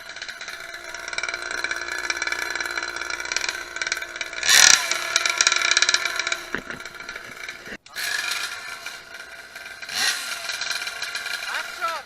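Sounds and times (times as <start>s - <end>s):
engine throttle burst: 0.0s - 12.0s
small engine running: 0.0s - 12.0s.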